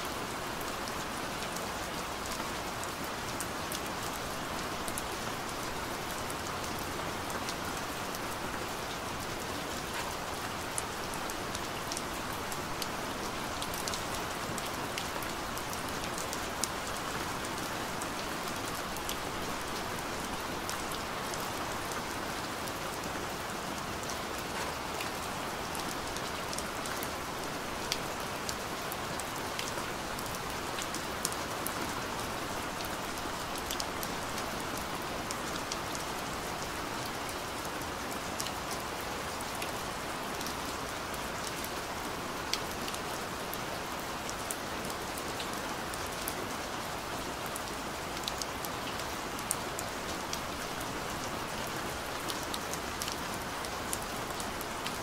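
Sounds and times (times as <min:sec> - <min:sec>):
rain falling with steady hiss: 0:00.0 - 0:55.0.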